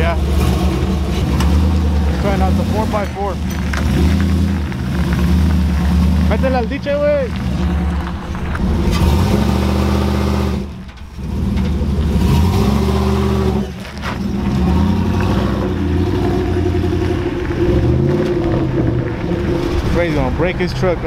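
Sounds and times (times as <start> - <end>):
pickup truck engine accelerating: 0.0 - 21.0.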